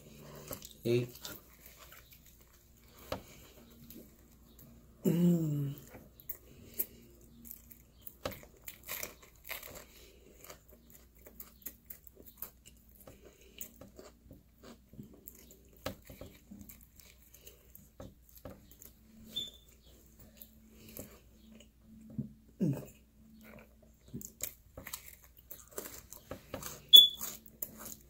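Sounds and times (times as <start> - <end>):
chewing crunchy crust: 0.0 - 4.8, 5.7 - 28.0.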